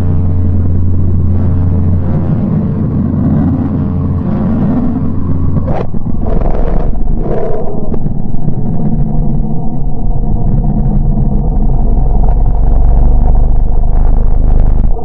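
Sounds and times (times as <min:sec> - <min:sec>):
deep steady hum: 0:00.0 - 0:15.0
rumbling noise: 0:00.0 - 0:15.0.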